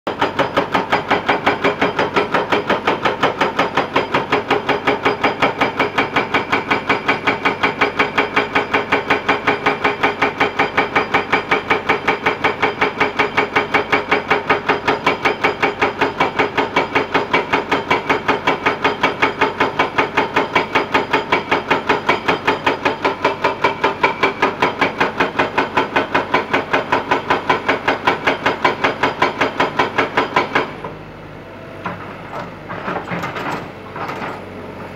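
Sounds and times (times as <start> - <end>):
hydraulic breaker pounding rock: 0.1 - 31.0, 31.8 - 34.9.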